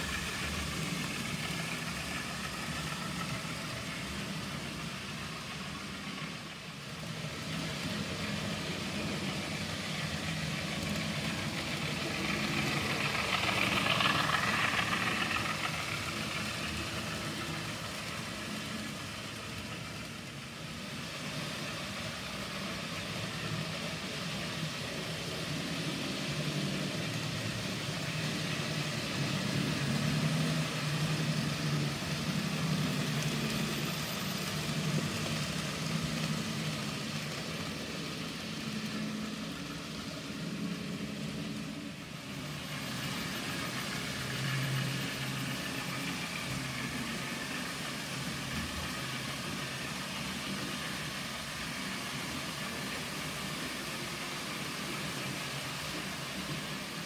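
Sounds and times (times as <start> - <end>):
model train motors whirring: 0.0 - 57.0
wheels rattling on track: 0.0 - 57.0.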